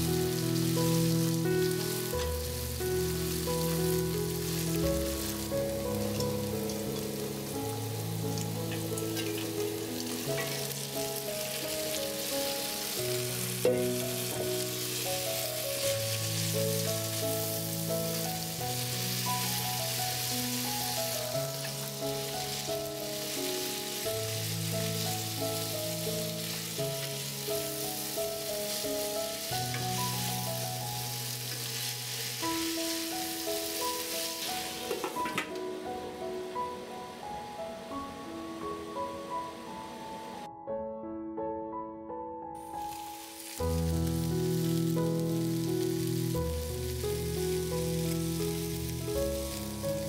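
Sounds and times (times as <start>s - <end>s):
food sizzling in a pan: 0.0s - 37.9s, 42.6s - 50.0s
calm background music: 0.0s - 50.0s.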